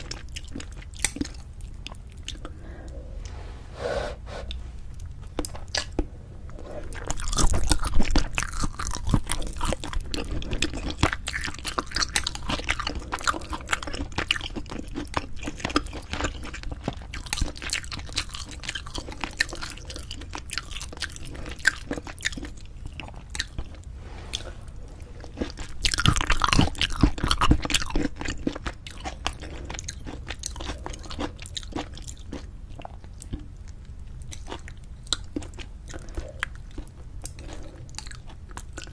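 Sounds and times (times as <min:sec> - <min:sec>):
close chewing with crunchy bites: 0:00.0 - 0:02.6, 0:05.0 - 0:38.9.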